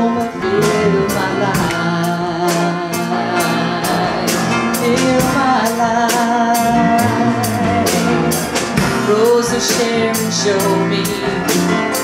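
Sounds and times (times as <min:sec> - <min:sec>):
gospel band playing: 0:00.0 - 0:12.0
person singing: 0:00.0 - 0:12.0
piano: 0:00.0 - 0:12.0.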